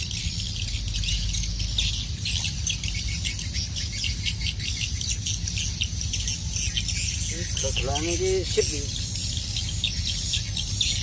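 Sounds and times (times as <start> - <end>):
high-pitched chirping calls: 0.0 - 11.0
low steady rumble: 0.0 - 11.0.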